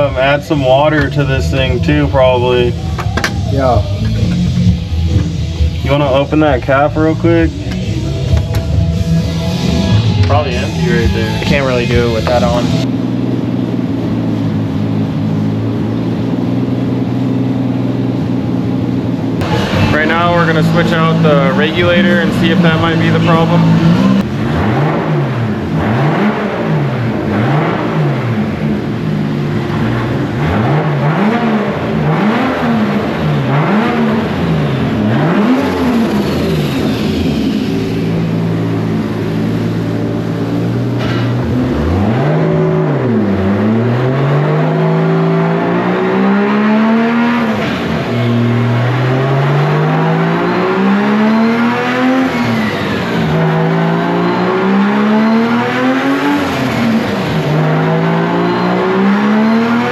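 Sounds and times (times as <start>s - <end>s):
car engine revving and accelerating: 0.0s - 59.9s.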